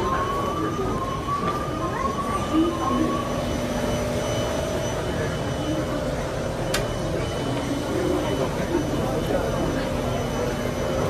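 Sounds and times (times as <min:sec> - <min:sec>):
faint chatter: 0:00.0 - 0:11.0
stopped train humming: 0:00.0 - 0:11.0.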